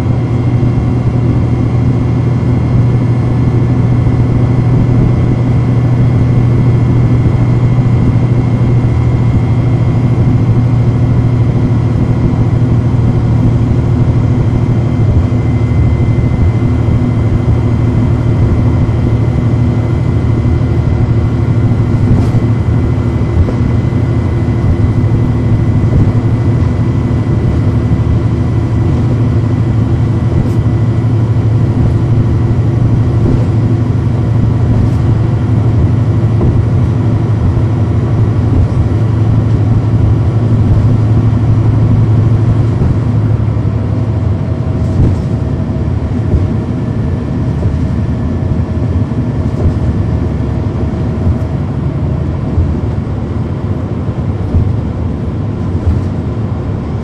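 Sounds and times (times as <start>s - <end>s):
bus diesel engine droning: 0.0s - 57.0s
faint whine: 0.0s - 57.0s.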